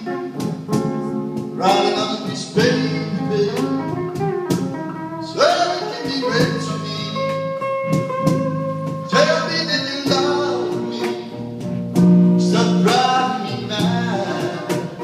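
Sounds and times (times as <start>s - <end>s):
drums and cymbals: 0.0s - 15.0s
electric lead guitar: 0.0s - 15.0s.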